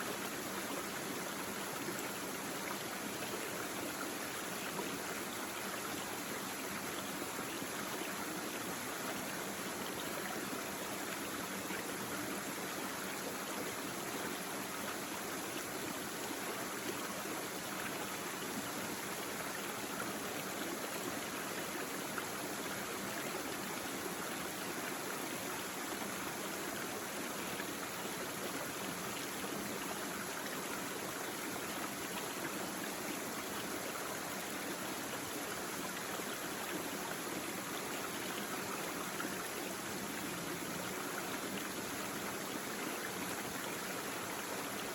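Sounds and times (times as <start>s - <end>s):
brook babbling over stones: 0.0s - 44.9s.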